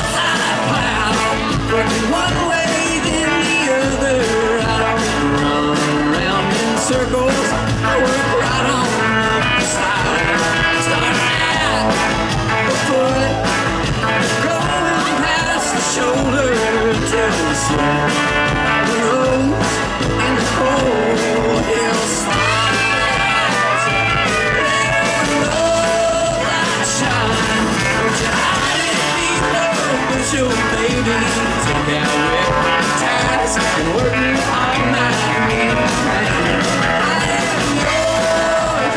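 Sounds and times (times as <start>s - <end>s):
live band playing country-rock: 0.0s - 38.9s.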